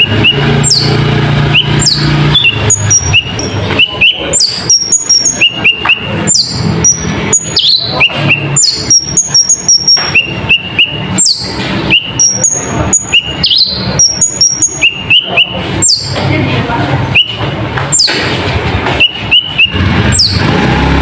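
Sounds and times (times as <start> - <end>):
bird chirps and whistles: 0.0 - 16.2, 17.1 - 18.2, 19.0 - 20.5
dense clicking bird notes: 0.0 - 16.3, 17.1 - 20.5.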